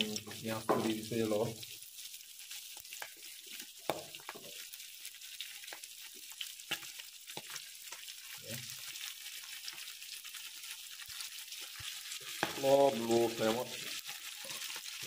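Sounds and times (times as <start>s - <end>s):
pork frying in hot oil: 0.0s - 15.0s.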